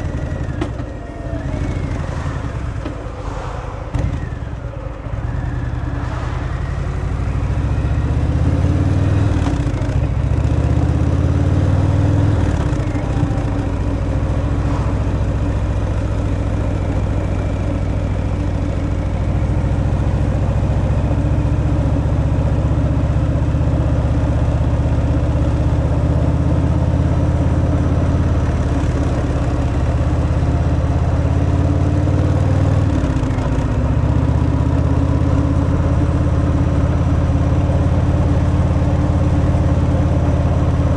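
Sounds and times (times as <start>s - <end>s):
motorcycle engine running: 0.0s - 3.1s, 3.9s - 40.9s.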